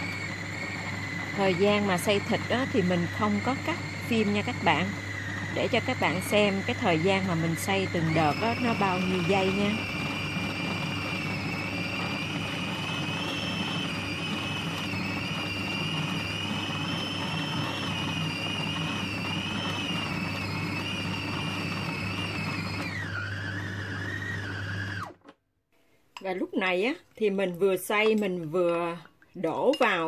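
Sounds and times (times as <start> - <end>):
food processor motor whining: 0.0 - 25.4.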